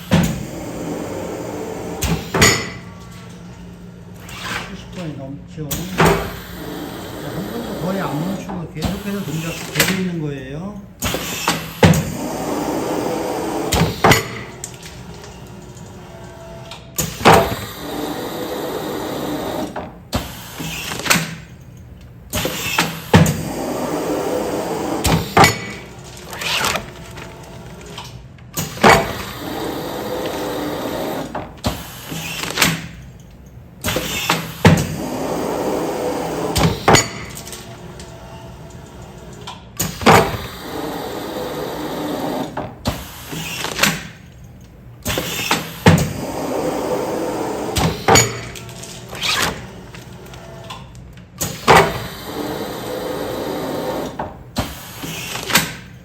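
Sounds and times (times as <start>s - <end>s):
sealing machine running: 0.0s - 56.0s.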